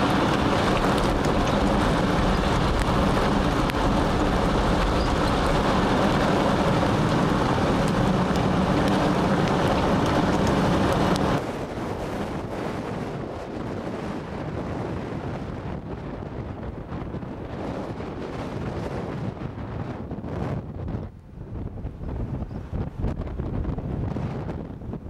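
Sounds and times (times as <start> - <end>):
moving vehicle: 0.0 - 25.0
wind on microphone: 0.0 - 25.0.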